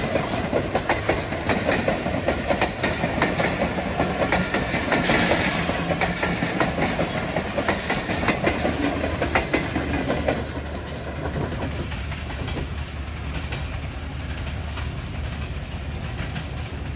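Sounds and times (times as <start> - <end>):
train rumble: 0.0 - 16.9
train wheels clacking: 0.0 - 16.9.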